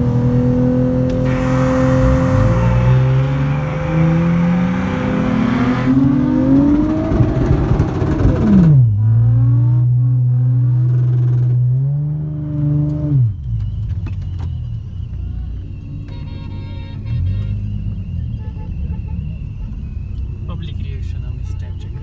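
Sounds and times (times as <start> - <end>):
car engine revving: 0.0 - 16.2, 17.0 - 22.0.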